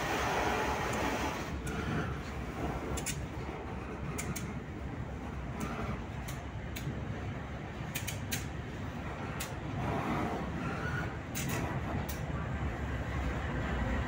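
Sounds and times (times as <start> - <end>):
locomotive rumbling: 0.0 - 14.0
wheels creaking on rails: 0.0 - 14.0.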